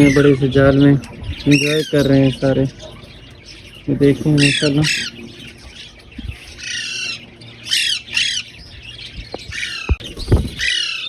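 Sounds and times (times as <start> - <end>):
parrots squawking: 0.0 - 11.0.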